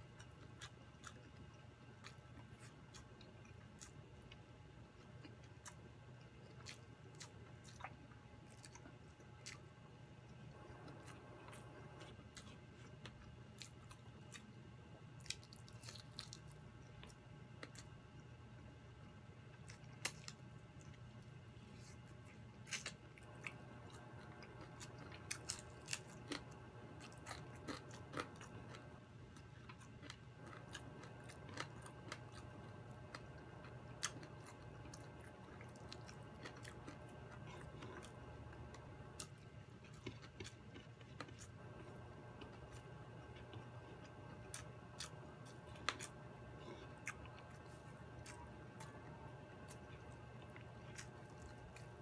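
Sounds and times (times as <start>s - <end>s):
chewing and biting food: 0.0s - 18.3s, 19.5s - 52.0s
faint steady hum: 0.0s - 52.0s.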